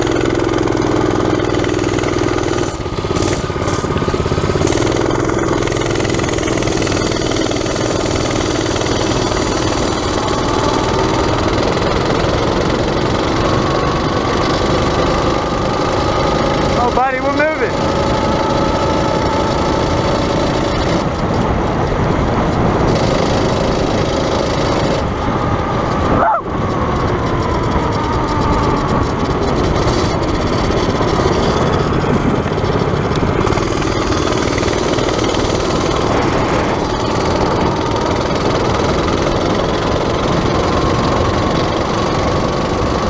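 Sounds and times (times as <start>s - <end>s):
minibike engine revving: 0.0s - 43.0s.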